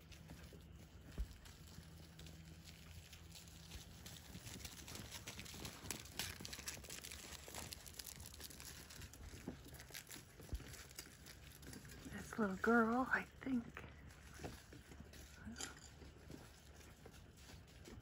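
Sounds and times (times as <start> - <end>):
puppies rustling in grass: 0.0 - 18.0.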